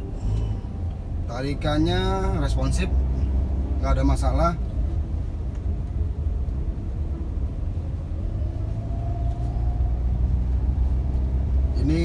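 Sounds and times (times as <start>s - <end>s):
car engine and road rumble: 0.0s - 12.0s
faint whine: 0.0s - 12.0s.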